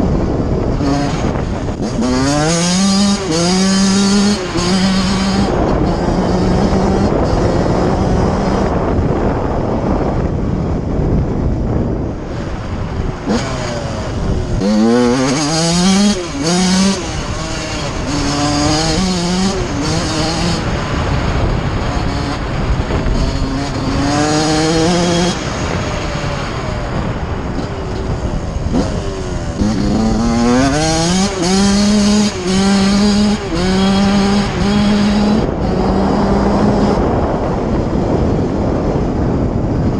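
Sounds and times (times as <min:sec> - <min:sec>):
steady rushing noise: 0:00.0 - 0:39.9
two-stroke engine revving: 0:00.6 - 0:08.9, 0:13.1 - 0:38.6.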